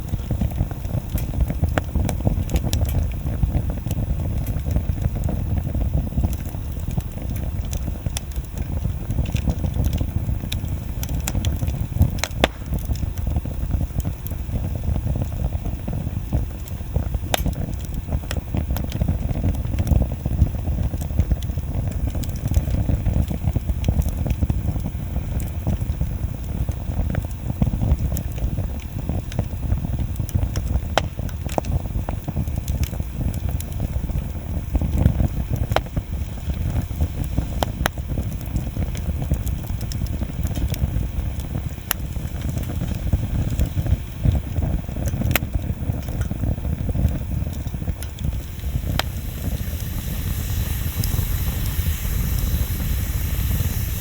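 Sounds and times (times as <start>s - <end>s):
fire rumbling: 0.0s - 54.0s
wood crackling and popping: 0.0s - 54.0s.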